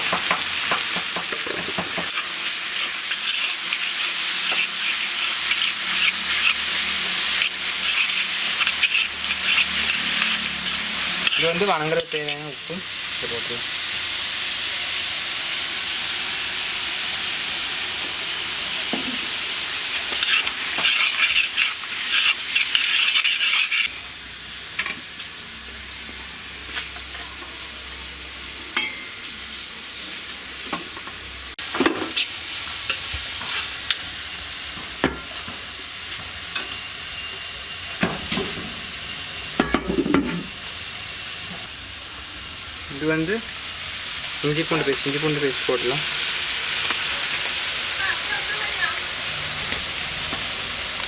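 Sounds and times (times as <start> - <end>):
vegetables sizzling in oil: 0.0 - 51.0.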